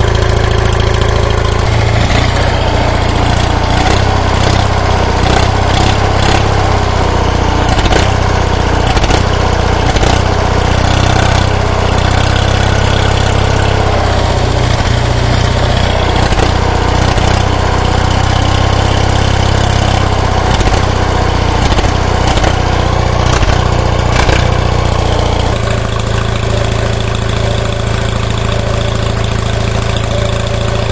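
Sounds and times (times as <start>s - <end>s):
generator engine running: 0.0s - 30.9s.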